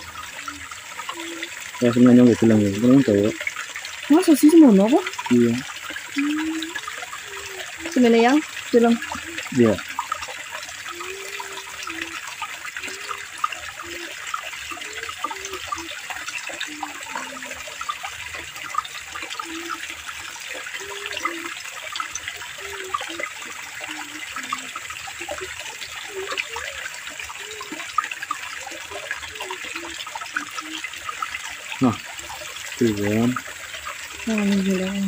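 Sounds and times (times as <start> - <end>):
water pouring into a pool: 0.0 - 35.0.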